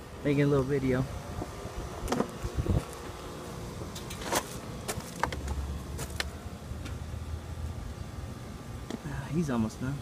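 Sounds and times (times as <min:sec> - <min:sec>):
low machinery hum: 0:00.0 - 0:10.0.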